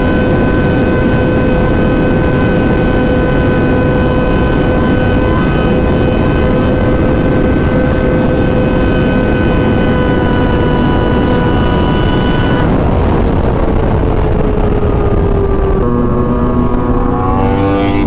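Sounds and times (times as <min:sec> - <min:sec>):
motorcycle engine high note: 0:00.0 - 0:18.0
wind rush: 0:00.0 - 0:18.0.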